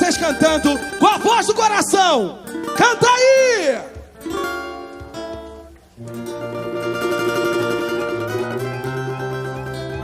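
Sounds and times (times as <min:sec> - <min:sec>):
plucked strings samba accompaniment: 0:00.0 - 0:10.0.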